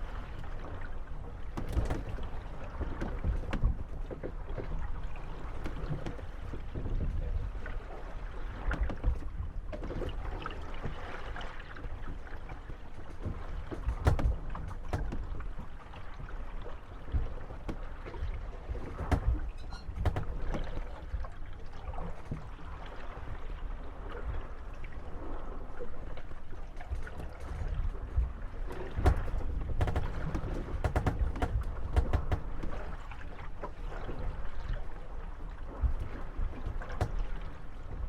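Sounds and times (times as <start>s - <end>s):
wooden boats creaking and knocking: 0.0s - 38.0s.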